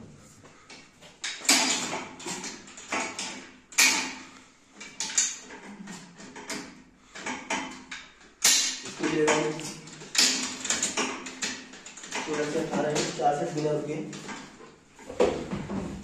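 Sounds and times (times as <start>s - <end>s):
gym machine clanking: 1.2s - 14.6s.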